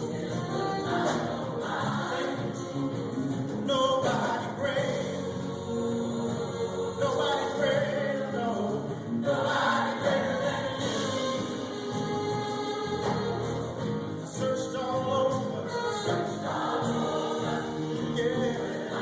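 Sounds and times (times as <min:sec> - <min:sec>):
choir singing gospel: 0:00.0 - 0:19.0.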